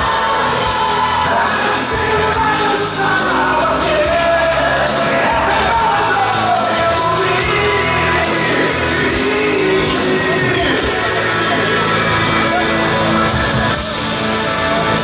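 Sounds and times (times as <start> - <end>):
live pop-rock band: 0.0 - 15.0
person singing: 0.0 - 15.0.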